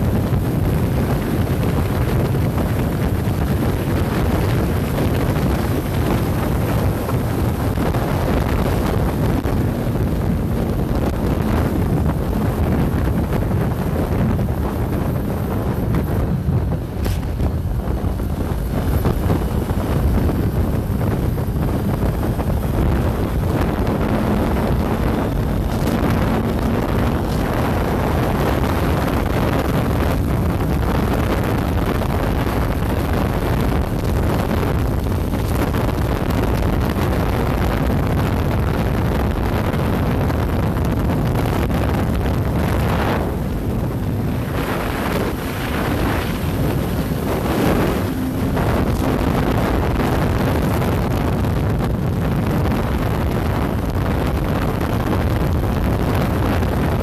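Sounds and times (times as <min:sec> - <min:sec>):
motorcycle engine hum: 0:00.0 - 0:57.0
road noise: 0:00.0 - 0:57.0
wind rushing over microphone: 0:00.0 - 0:57.0.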